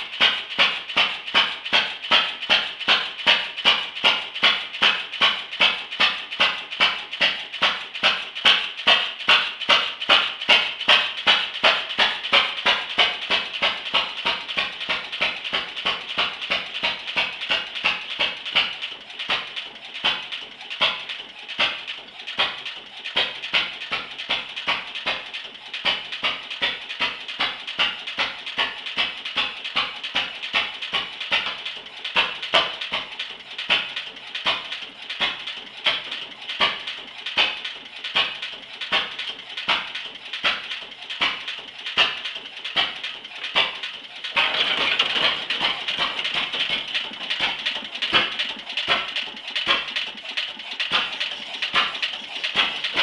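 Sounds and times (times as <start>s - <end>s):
single-cylinder engine popping: 0.0s - 53.0s.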